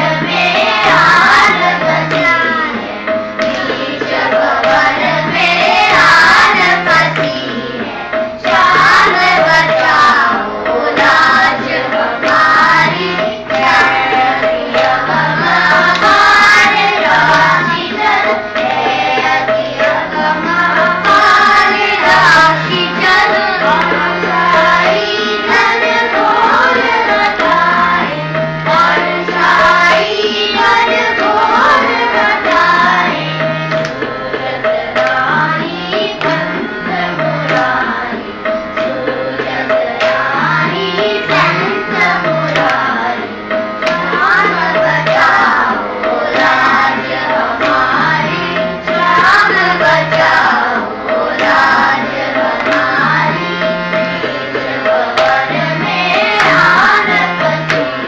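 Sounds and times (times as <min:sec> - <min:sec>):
children singing in unison: 0:00.0 - 0:58.0
tabla playing: 0:00.0 - 0:58.0.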